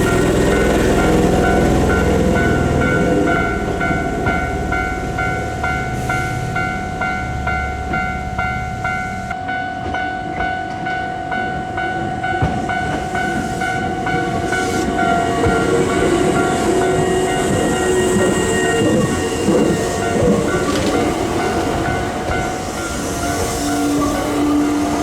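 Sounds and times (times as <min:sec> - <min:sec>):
train running on rails: 0:00.0 - 0:25.0.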